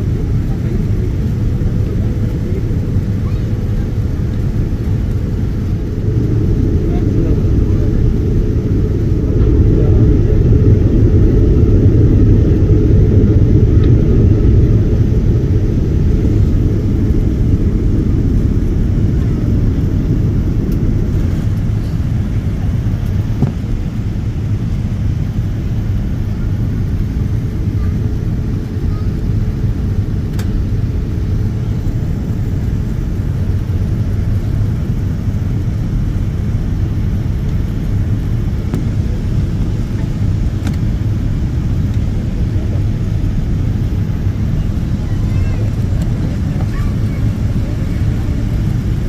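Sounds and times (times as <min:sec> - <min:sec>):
airliner cabin rumble: 0:00.0 - 0:49.0.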